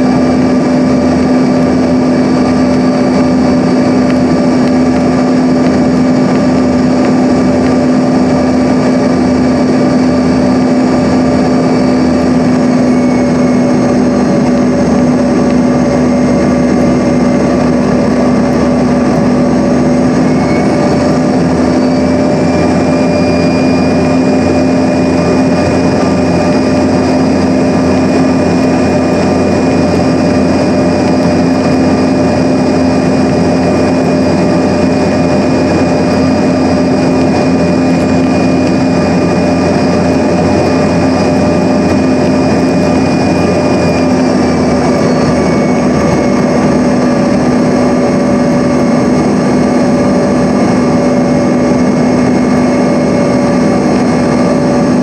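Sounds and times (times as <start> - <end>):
constant whine: 0.0 - 55.0
higher whine rising in pitch: 0.0 - 55.0
jet engines droning: 0.0 - 55.0.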